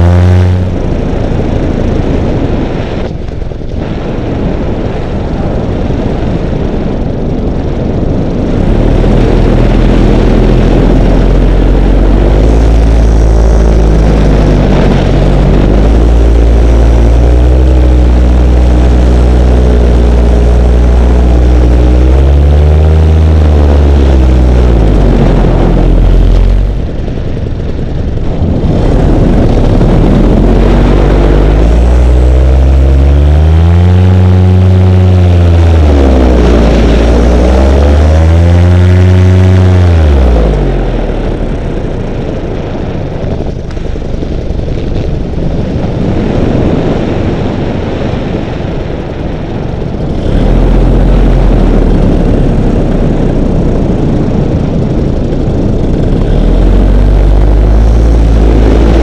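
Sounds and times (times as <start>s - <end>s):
paramotor engine and propeller: 0.0s - 59.0s
wind noise on microphone: 0.0s - 59.0s.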